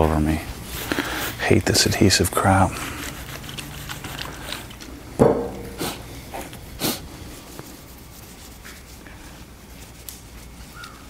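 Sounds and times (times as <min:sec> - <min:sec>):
paper towel rubbing on car paint: 0:00.0 - 0:04.7, 0:05.7 - 0:11.0.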